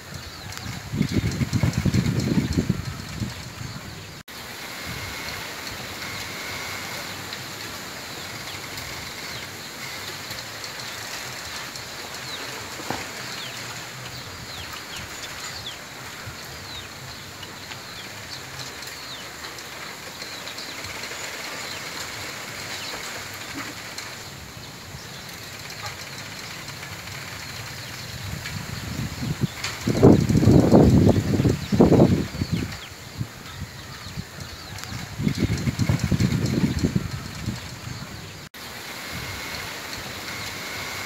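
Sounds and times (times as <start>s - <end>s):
wind rushing through bamboo leaves: 0.0s - 41.0s.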